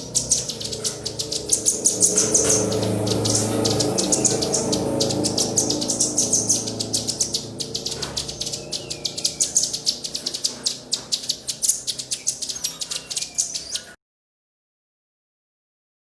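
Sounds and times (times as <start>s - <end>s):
low hum: 0.0s - 13.4s
songbird chip calls: 0.0s - 14.0s.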